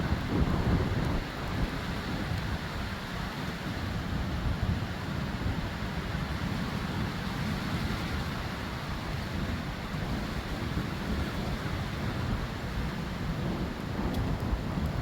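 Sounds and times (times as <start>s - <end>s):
strong storm wind: 0.0s - 15.0s
wind buffeting microphone: 0.0s - 15.0s.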